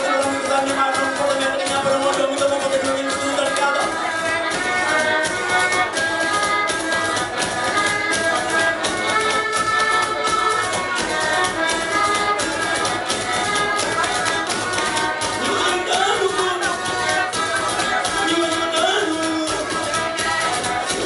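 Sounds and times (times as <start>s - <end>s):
slapped percussion beat: 0.0s - 21.0s
voices singing: 0.0s - 21.0s.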